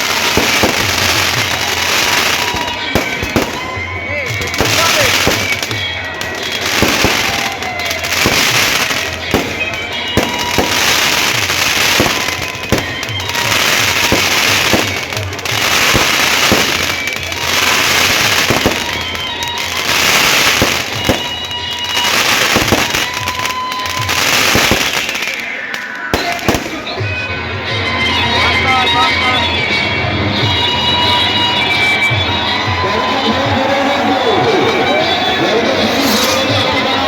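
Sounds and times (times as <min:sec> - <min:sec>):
fireworks whistling: 0:00.0 - 0:29.7, 0:30.4 - 0:37.0
fireworks crackling and banging: 0:00.0 - 0:37.0.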